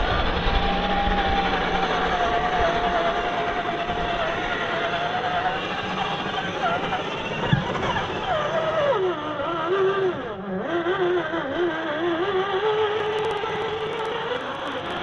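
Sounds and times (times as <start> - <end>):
rc truck engine: 0.0 - 15.0.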